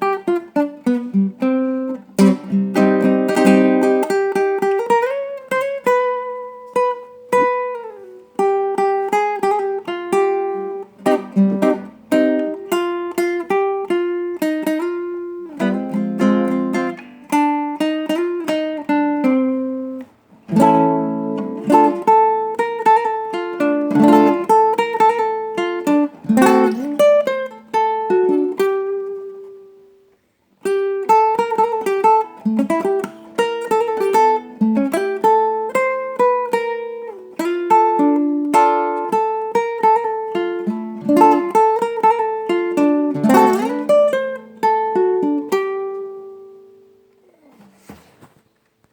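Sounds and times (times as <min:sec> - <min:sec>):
plucked guitar melody: 0:00.0 - 0:47.8.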